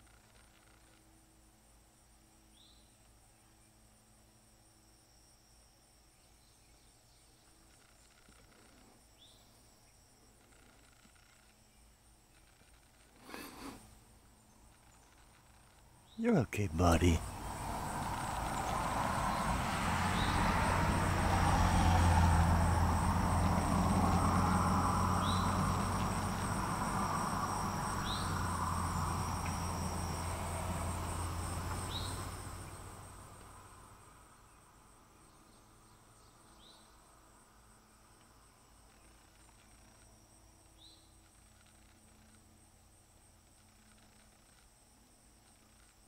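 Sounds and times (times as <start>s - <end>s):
high insect trill: 0.0s - 46.0s.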